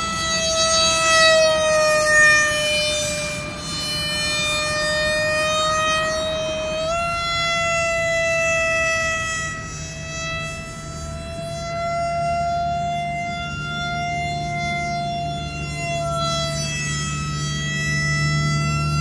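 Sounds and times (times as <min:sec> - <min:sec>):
electric motor and propeller whining: 0:00.0 - 0:19.0.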